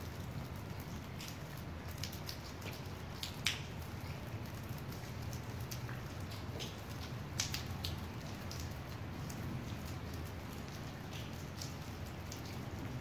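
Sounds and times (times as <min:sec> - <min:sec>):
raindrops ticking on hard surface: 0:00.0 - 0:13.0
steady rain: 0:00.0 - 0:13.0.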